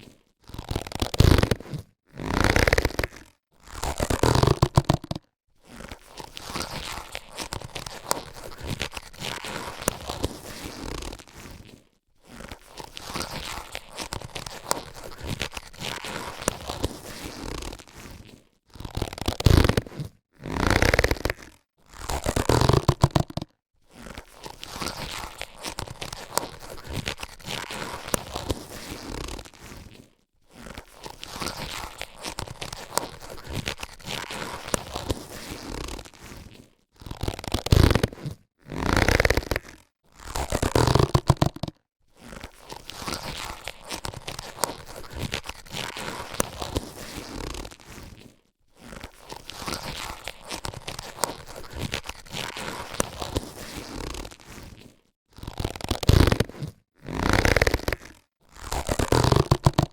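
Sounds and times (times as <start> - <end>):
latex gloves rustling: 4.1 - 59.9.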